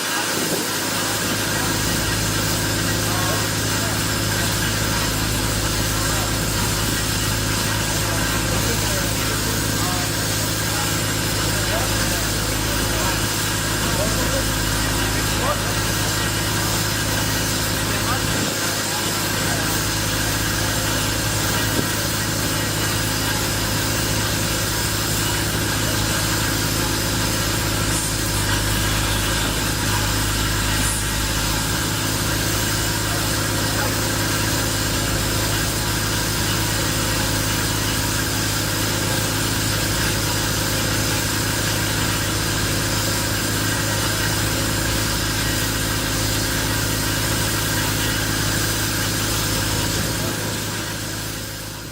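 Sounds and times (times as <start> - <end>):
engine humming steadily: 0.0 - 51.9.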